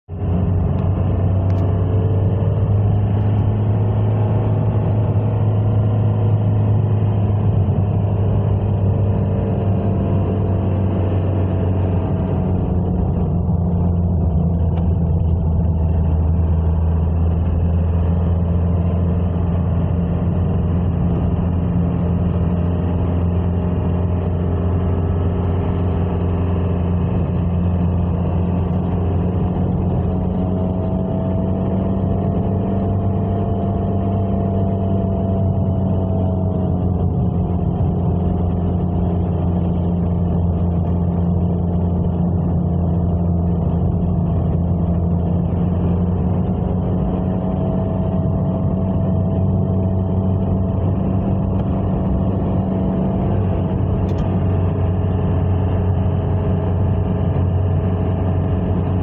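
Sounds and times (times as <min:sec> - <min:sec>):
vehicle engine and road drone: 0:00.0 - 0:59.0.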